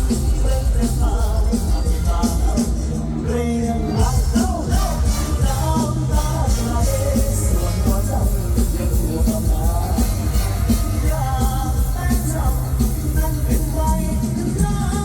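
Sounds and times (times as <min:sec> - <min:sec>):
heavy bass beat: 0:00.0 - 0:15.0
live band music: 0:00.0 - 0:15.0.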